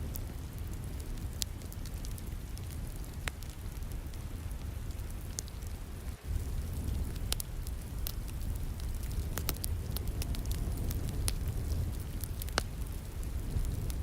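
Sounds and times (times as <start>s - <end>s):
falling rain hiss: 0.0s - 14.0s
fireplace fire crackling and popping: 0.0s - 14.0s.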